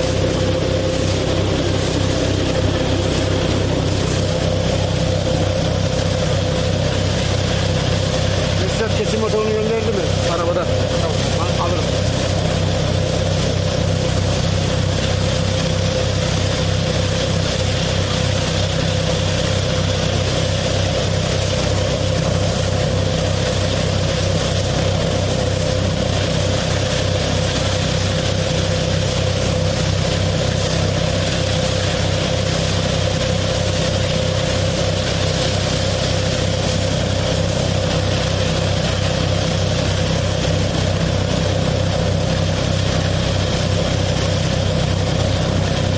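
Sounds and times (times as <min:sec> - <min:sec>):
harvesting machine droning: 0:00.0 - 0:45.9.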